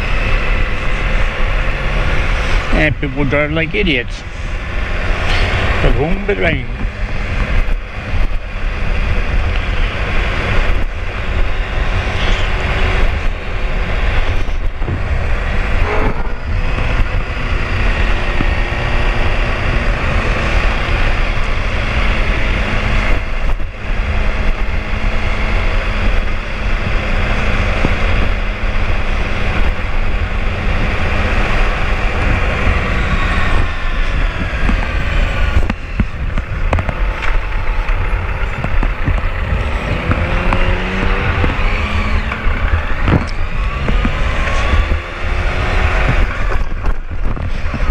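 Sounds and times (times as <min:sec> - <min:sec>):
motorcycle engine drone: 0:00.0 - 0:47.9
wind buffeting microphone: 0:00.0 - 0:47.9.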